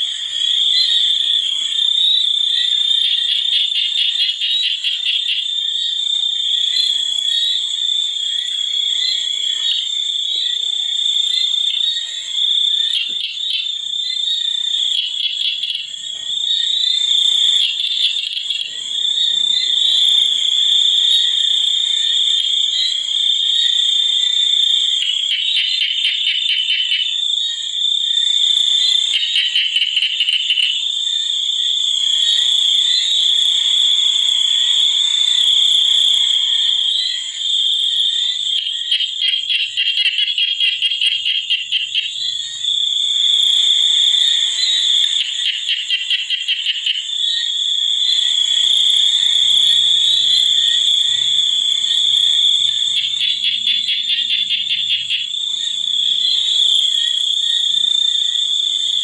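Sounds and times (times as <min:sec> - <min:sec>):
insects calling: 0:00.0 - 0:59.0
rapid pulsing insect trills: 0:00.0 - 0:59.0.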